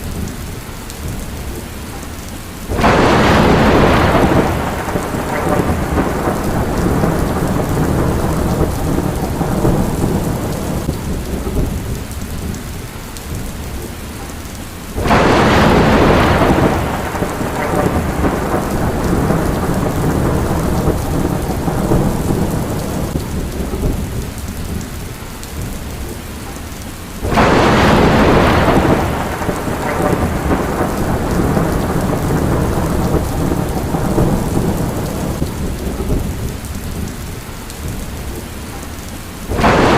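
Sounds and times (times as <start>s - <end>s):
heavy rain: 0.0s - 39.9s
thunder cracking and rumbling: 2.7s - 14.3s, 14.9s - 26.2s, 27.2s - 38.5s, 39.4s - 39.9s.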